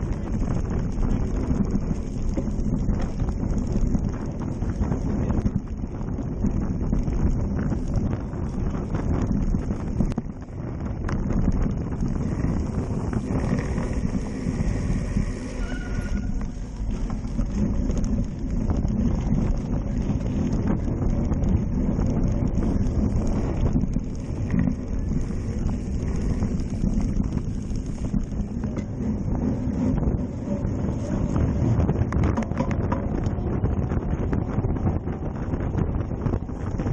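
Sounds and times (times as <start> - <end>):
bike clattering on dirt trail: 0.0 - 36.9
wind buffeting microphone: 0.0 - 36.9.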